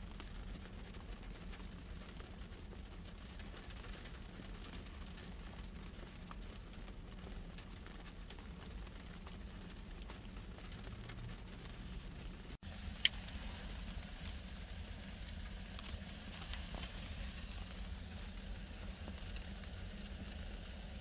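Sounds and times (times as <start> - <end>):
light crackles and ticks: 0.0 - 21.0
low steady hum: 0.0 - 21.0
soft steady hiss: 0.0 - 21.0.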